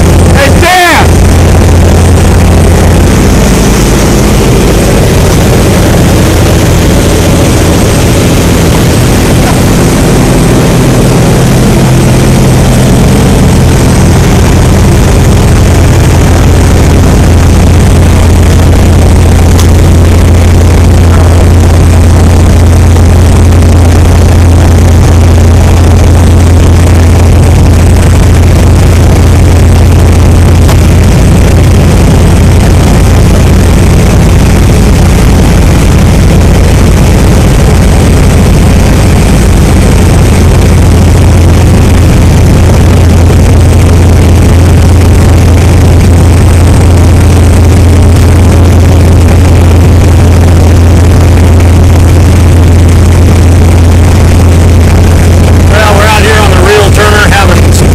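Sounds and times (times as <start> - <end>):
motorboat engine running: 0.0 - 57.9.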